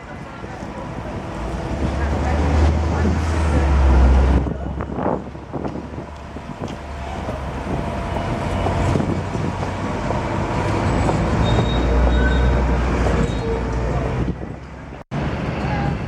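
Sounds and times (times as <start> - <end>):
wheels squealing on rails: 0.0 - 14.2
tram rumbling past: 0.0 - 16.0.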